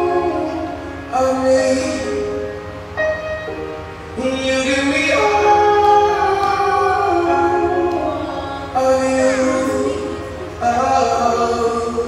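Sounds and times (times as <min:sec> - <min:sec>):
slow music with long held notes: 0:00.0 - 0:12.0.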